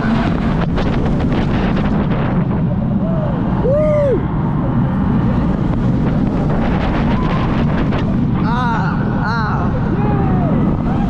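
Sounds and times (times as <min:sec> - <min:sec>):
roller coaster wheels rumbling: 0:00.0 - 0:11.0
wind buffeting microphone: 0:00.0 - 0:11.0.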